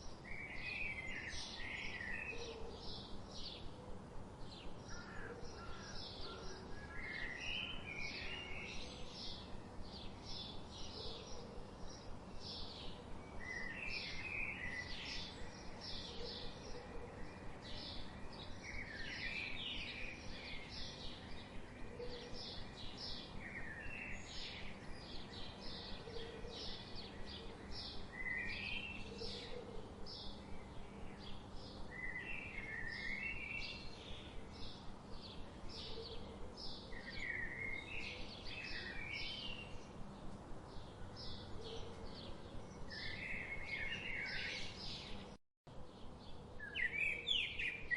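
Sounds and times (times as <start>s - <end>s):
warbled bird song: 0.0s - 47.9s.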